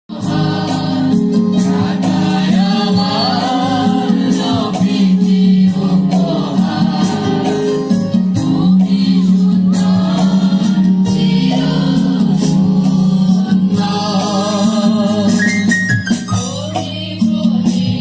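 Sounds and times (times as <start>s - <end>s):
choir singing a hymn: 0.1s - 15.5s, 16.2s - 18.0s.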